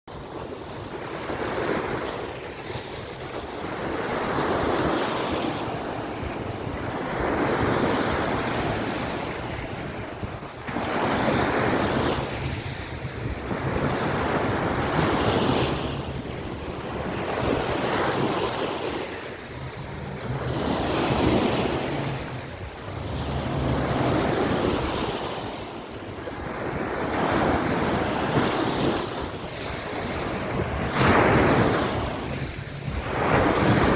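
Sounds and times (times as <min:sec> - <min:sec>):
waves breaking on a beach: 0:00.1 - 0:33.9
wind on microphone: 0:00.1 - 0:33.9.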